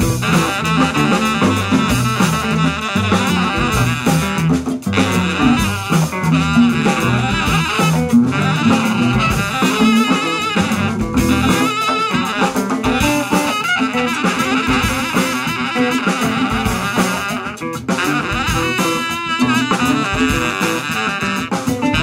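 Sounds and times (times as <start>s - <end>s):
drum kit: 0.0s - 22.0s
guitar: 0.0s - 22.0s
hand percussion: 0.0s - 22.0s
saxophone: 0.0s - 22.0s
upright bass: 0.0s - 22.0s.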